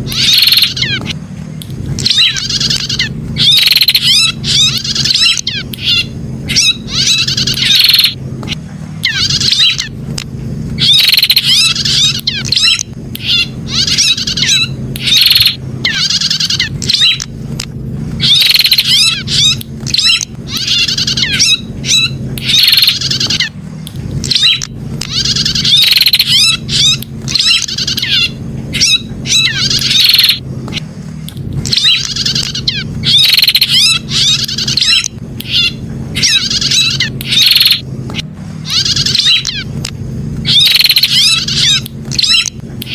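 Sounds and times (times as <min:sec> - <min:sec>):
bird rapid chirping: 0:00.0 - 0:01.2, 0:01.9 - 0:10.0, 0:10.8 - 0:17.4, 0:18.2 - 0:30.9, 0:31.6 - 0:39.8, 0:40.4 - 0:42.9
steady low hum: 0:00.0 - 0:42.9.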